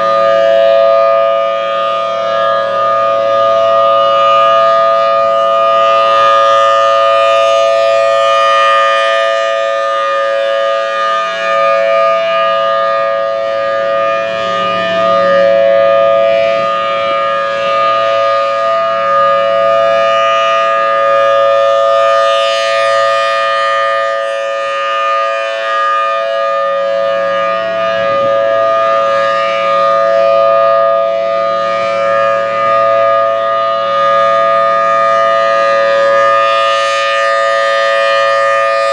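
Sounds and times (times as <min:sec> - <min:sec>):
warning siren two-tone chord: 0:00.0 - 0:38.9.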